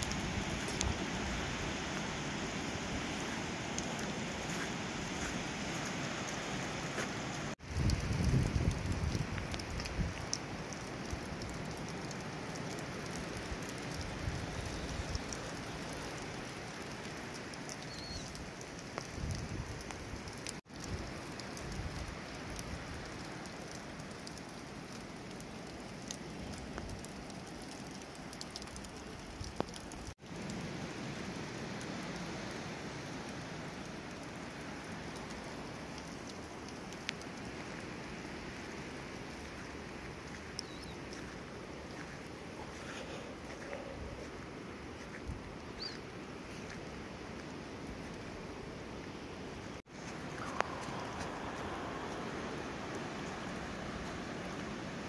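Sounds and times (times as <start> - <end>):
rain dripping through trees: 0.0 - 55.0.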